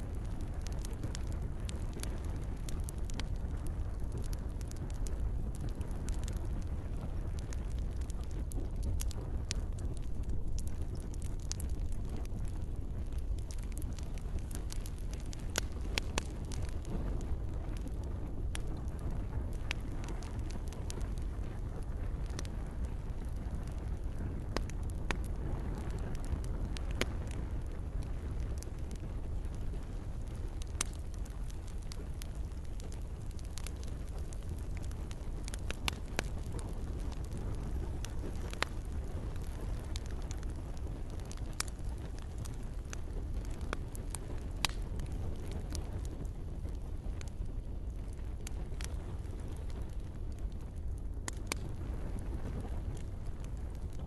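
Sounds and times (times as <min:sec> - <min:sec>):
gentle rain falling: 0:00.0 - 0:49.9
burning wood popping and snapping: 0:00.0 - 0:54.0
campfire crackling: 0:00.0 - 0:54.0
low rumble of flames: 0:00.0 - 0:54.0.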